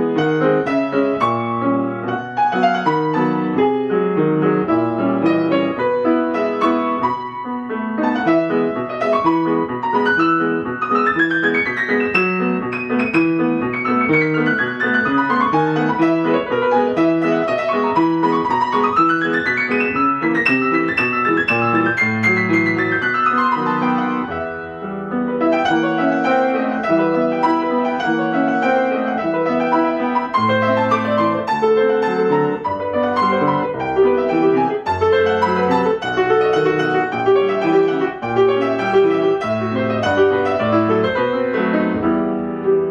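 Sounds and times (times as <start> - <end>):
solo classical piano: 0.0 - 42.9.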